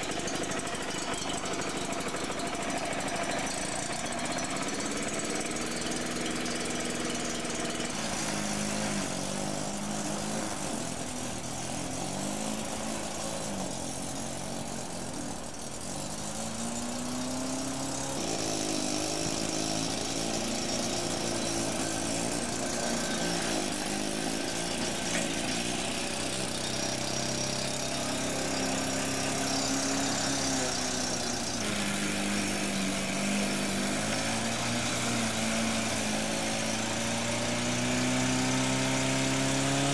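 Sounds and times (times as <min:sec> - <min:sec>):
lawnmower engine mowing grass: 0:00.0 - 0:39.9.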